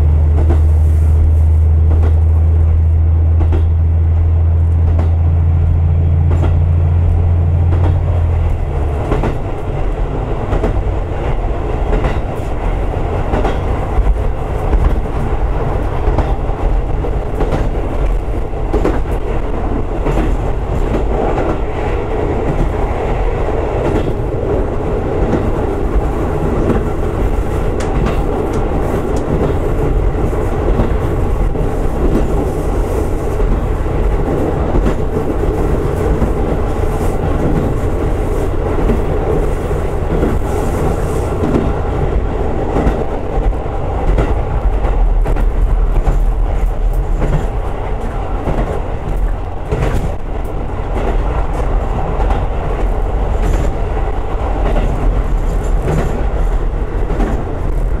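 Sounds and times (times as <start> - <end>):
railcar engine and wheels rumbling: 0.0 - 58.0
wheels clacking over rail joints: 1.8 - 58.0.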